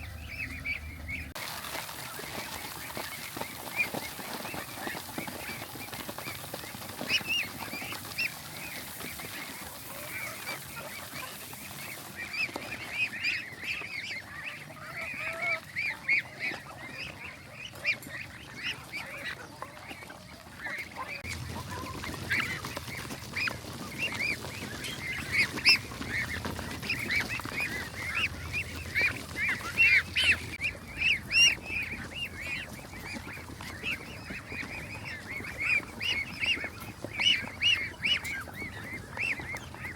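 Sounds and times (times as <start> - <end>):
flock of fowl calling: 0.0 - 39.9.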